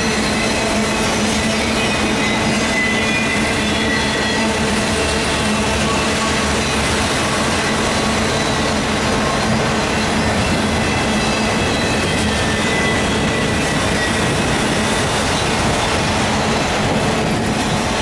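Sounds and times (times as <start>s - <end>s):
high wheel squealing: 0.0s - 18.0s
steel wheels rumbling on rails: 0.0s - 18.0s.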